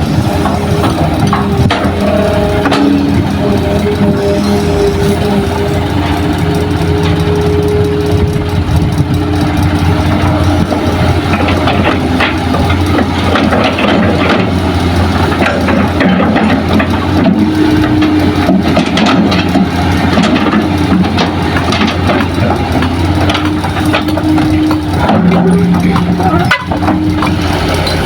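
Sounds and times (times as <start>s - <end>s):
earth scraping and clattering: 0.0s - 28.0s
heavy diesel engines running: 0.0s - 28.0s.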